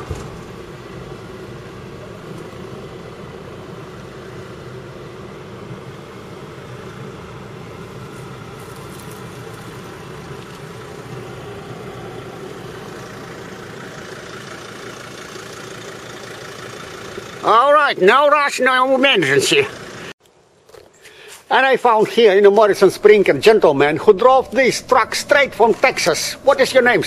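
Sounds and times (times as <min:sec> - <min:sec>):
van engine running: 0:00.0 - 0:20.2, 0:22.1 - 0:27.0.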